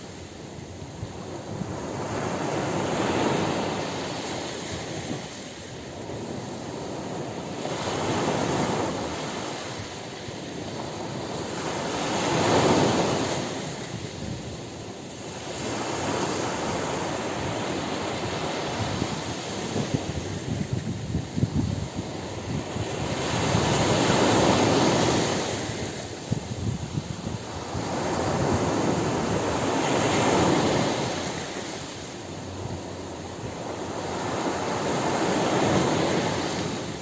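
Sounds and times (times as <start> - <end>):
surf breaking on a beach: 0.0 - 37.0.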